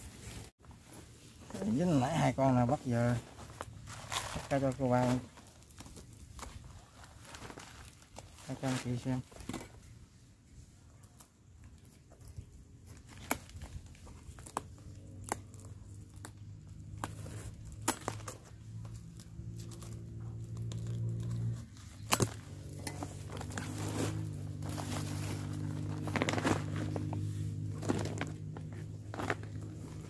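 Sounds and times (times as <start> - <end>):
plastic crinkling: 3.1 - 9.8, 11.6 - 30.0.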